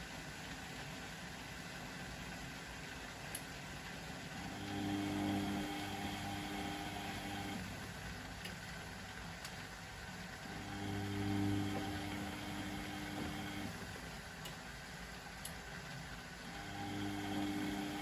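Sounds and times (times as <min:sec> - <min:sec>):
washing machine drum motor: 0:00.0 - 0:18.0.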